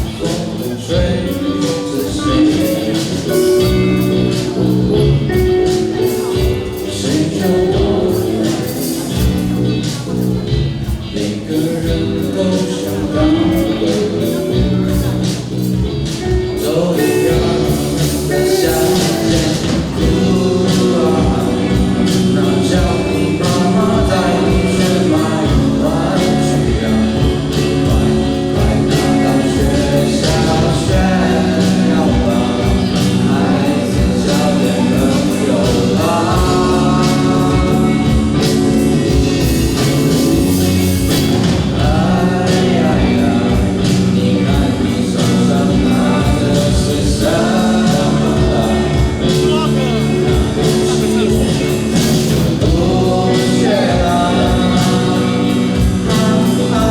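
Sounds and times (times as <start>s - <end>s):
person singing: 0.0s - 56.9s
rock band playing live: 0.0s - 56.9s
steady drum beat: 0.0s - 56.9s.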